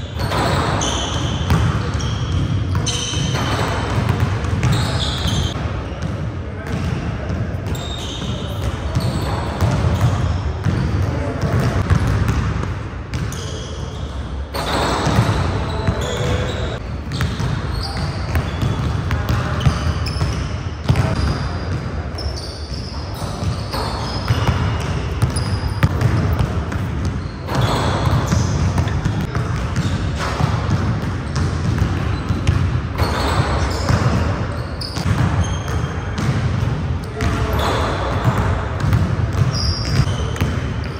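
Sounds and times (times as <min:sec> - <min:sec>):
basketballs bouncing on wooden floor: 0:00.0 - 0:13.6, 0:14.5 - 0:22.0, 0:23.3 - 0:40.9
sneaker squeaks: 0:00.0 - 0:40.9.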